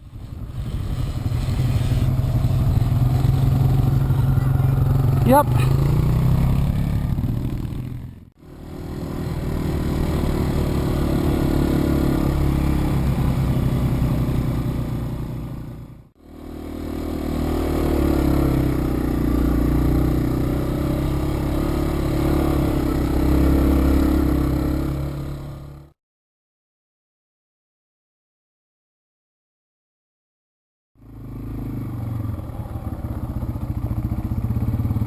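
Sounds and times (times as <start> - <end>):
motorcycle engine running: 0.1 - 25.9, 31.0 - 35.0.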